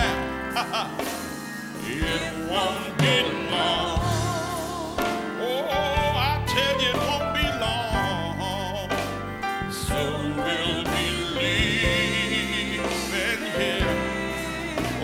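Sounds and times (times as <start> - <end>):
gospel choir singing: 0.0 - 15.0
instrumental accompaniment: 0.0 - 15.0.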